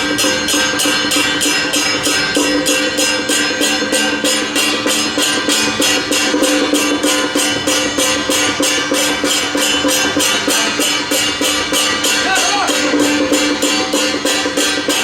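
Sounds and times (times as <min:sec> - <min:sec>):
cymbals struck in fast beat: 0:00.0 - 0:15.0
steady held tones: 0:00.0 - 0:15.0.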